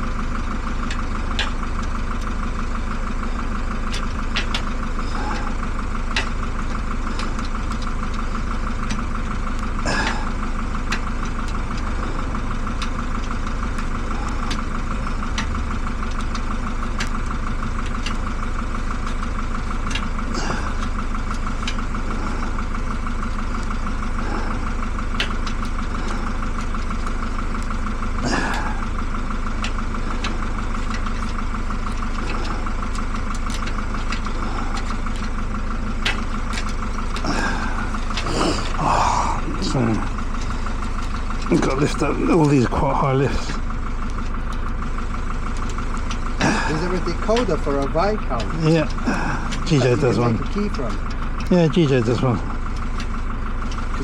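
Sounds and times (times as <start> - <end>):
steady motor drone: 0.0 - 54.0.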